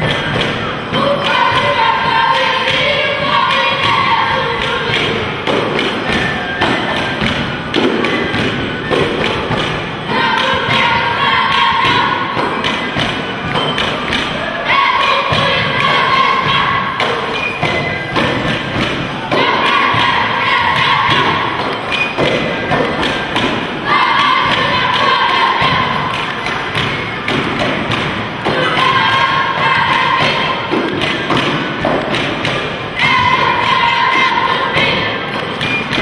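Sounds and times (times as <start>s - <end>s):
fast beat of thumps and clacks: 0.0s - 14.4s, 15.0s - 36.0s.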